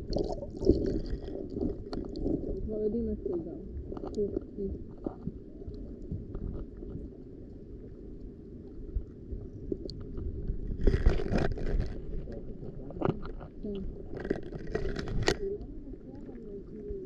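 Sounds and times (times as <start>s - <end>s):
underwater rumble of water: 0.0s - 17.0s
faint underwater clicks: 0.1s - 17.0s.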